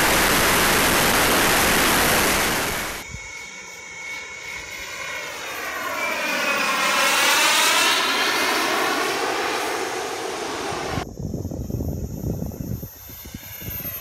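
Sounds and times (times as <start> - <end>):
model jet turbine whine: 0.0 - 14.0.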